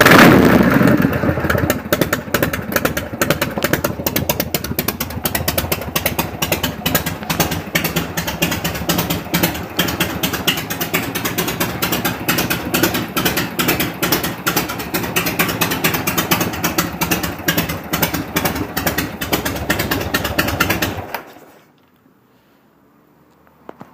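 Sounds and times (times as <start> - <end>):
motorcycle engine pulsing exhaust: 0.0 - 21.4.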